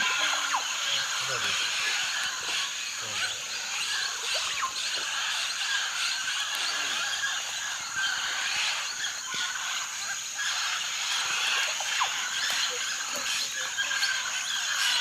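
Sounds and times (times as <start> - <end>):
small animals chirping and squeaking: 0.0 - 15.0.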